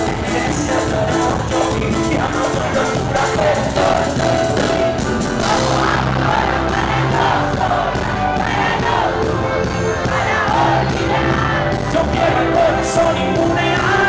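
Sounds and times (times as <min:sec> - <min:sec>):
person singing: 0:00.0 - 0:09.2, 0:10.1 - 0:14.0
live cumbia band playing: 0:00.0 - 0:14.0.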